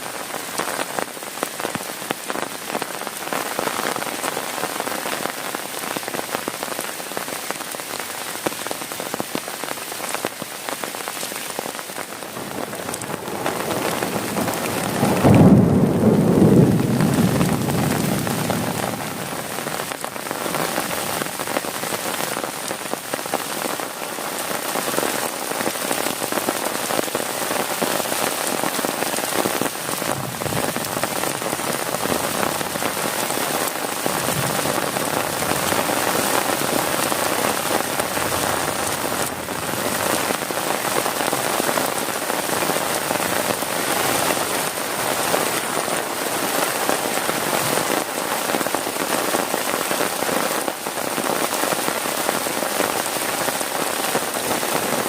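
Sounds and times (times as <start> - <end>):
heavy rain on plastic tarp: 0.0 - 55.0.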